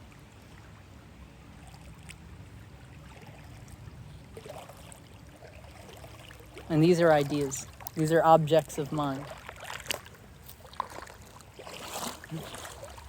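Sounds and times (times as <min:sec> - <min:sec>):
faint running water: 0:00.0 - 0:13.0.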